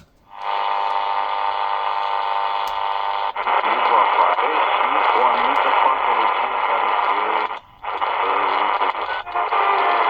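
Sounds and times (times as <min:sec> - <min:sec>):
radio tuning click: 0:00.0 - 0:10.0
radio static with whistles: 0:00.4 - 0:10.0.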